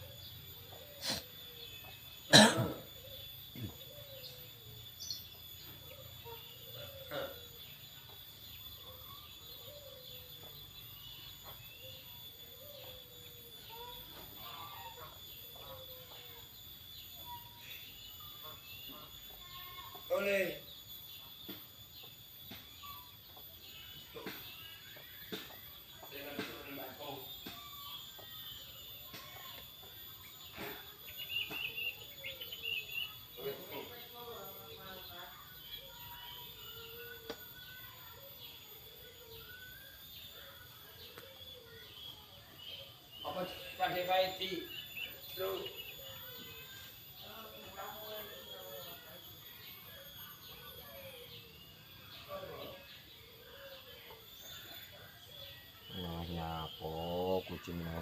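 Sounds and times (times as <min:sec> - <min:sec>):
birds calling and chirping: 0:00.0 - 0:58.0
insect trill: 0:00.0 - 0:58.0.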